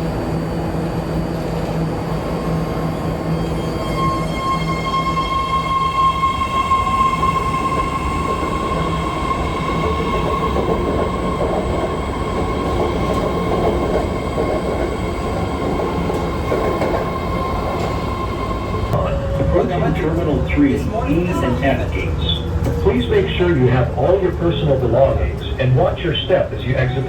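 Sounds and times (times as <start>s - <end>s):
high train whine: 0.0s - 27.0s
train rumble: 0.0s - 27.0s.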